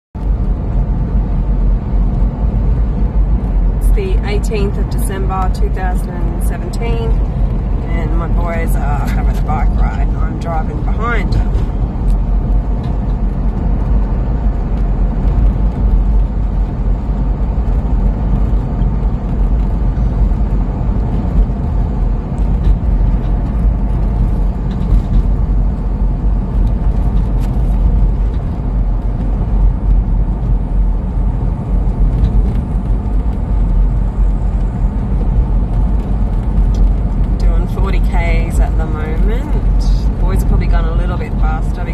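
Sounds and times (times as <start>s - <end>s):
car engine and road noise: 0.2s - 41.9s.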